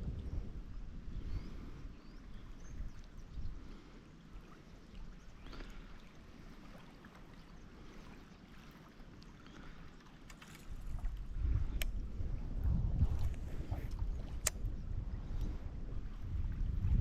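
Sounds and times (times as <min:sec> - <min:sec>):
gentle water noise: 0:00.0 - 0:17.0.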